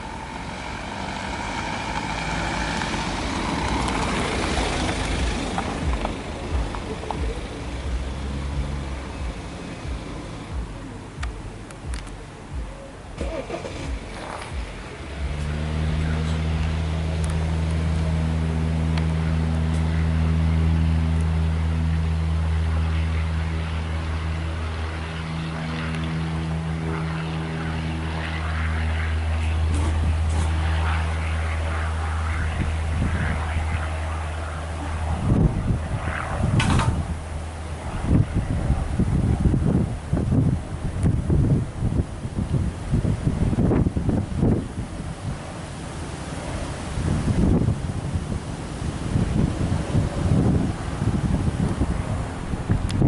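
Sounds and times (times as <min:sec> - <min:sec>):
propeller aircraft engine: 0:00.0 - 0:53.0
wind rumbling on microphone: 0:00.0 - 0:53.0.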